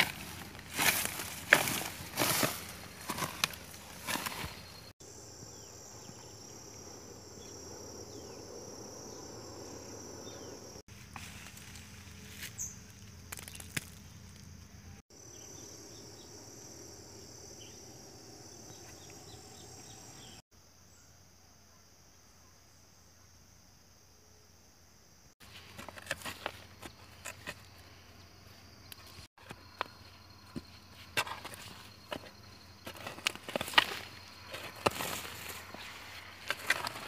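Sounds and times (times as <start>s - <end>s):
insects chirring: 0.0s - 37.0s.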